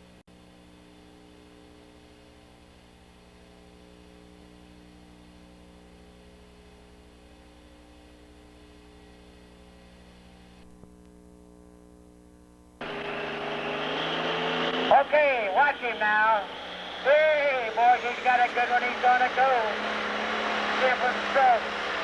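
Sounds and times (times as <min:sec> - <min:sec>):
electrical mains hum with hiss: 0:00.0 - 0:13.1, 0:14.9 - 0:19.7.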